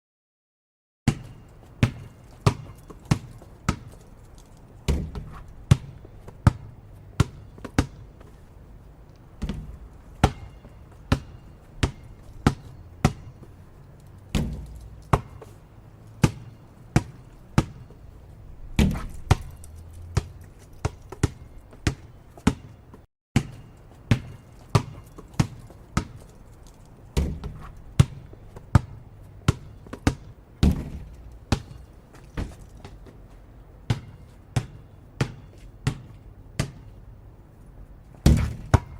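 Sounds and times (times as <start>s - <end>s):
basketball bouncing on a court: 1.1s - 8.5s, 9.3s - 15.6s, 16.2s - 33.1s, 33.8s - 37.0s, 38.2s - 38.9s.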